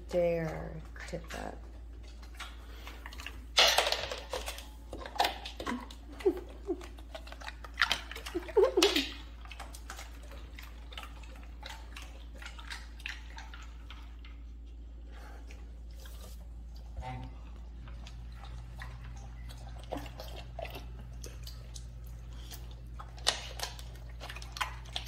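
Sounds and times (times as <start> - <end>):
dog lapping water: 0.0 - 4.2, 4.8 - 25.0.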